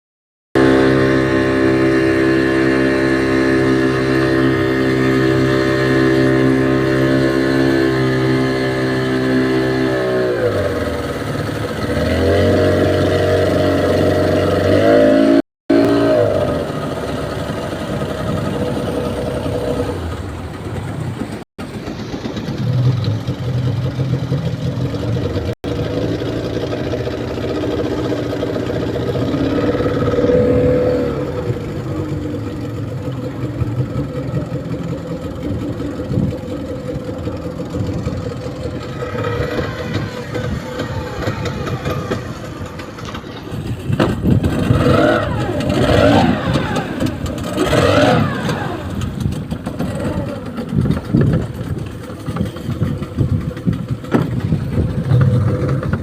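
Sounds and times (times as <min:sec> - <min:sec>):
small boat engine running: 0:00.6 - 0:56.0.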